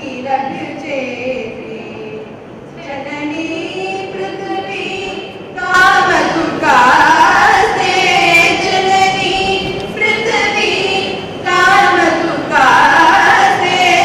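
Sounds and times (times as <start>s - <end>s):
voices singing devotional song: 0.0s - 14.0s.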